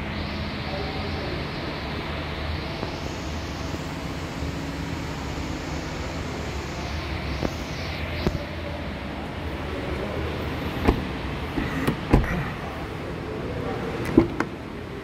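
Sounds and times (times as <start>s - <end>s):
room noise hiss and hum: 0.0s - 15.0s.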